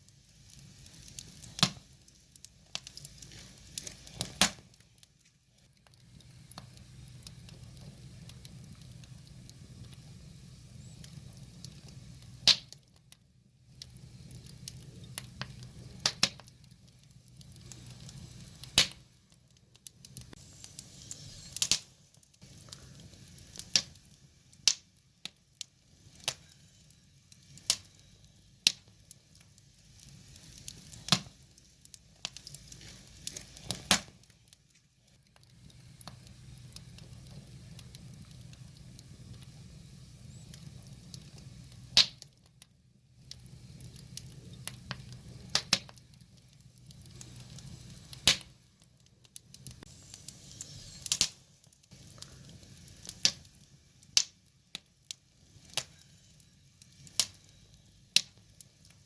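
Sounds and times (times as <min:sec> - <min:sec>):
fire hissing and sizzling: 0:00.0 - 0:59.0
wood fire crackling and popping: 0:00.0 - 0:59.0.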